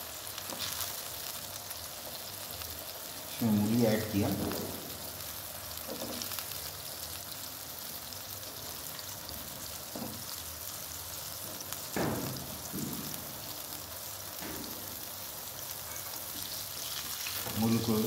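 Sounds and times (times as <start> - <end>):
gravy sizzling and bubbling in a pan: 0.0 - 18.0.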